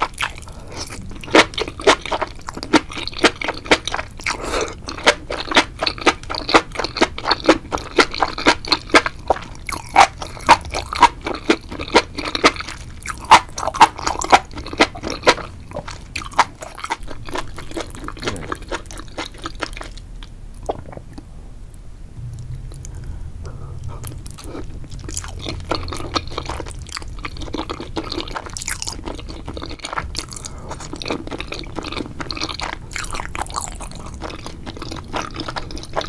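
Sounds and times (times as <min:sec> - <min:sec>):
person chewing noodles: 0:00.0 - 0:21.3, 0:22.6 - 0:36.0.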